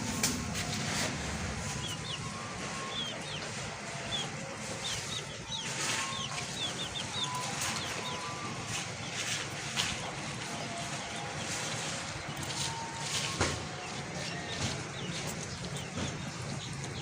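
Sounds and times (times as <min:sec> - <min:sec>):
small birds chirping: 0:01.6 - 0:17.0.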